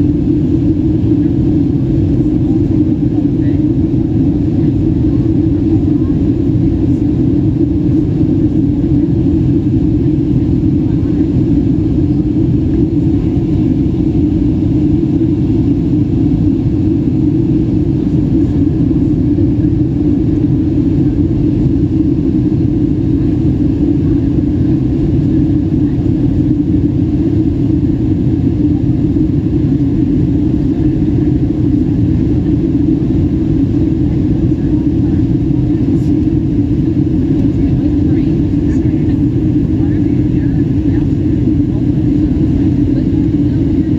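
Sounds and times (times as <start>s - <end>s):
airliner cabin drone: 0.0s - 43.9s.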